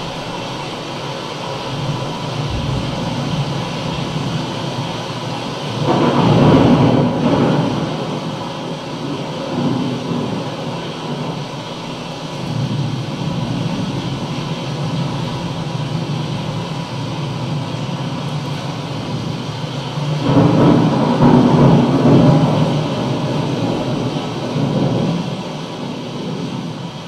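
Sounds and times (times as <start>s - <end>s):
steady low rumbling: 0.0s - 27.0s.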